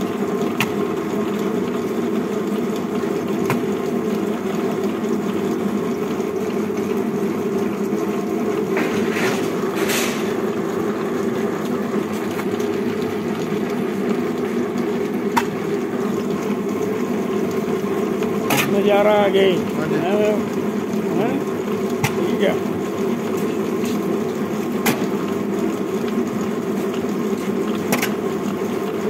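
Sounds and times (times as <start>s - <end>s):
extruder machine droning: 0.0s - 29.0s.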